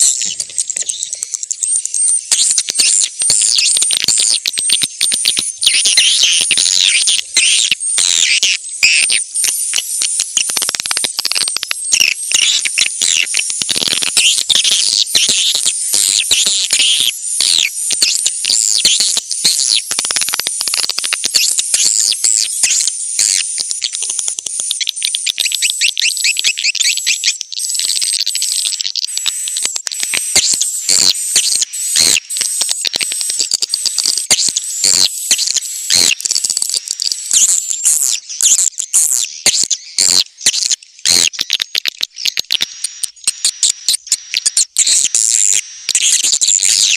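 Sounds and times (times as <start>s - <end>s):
swiftlets chirping and twittering: 0.0s - 46.9s.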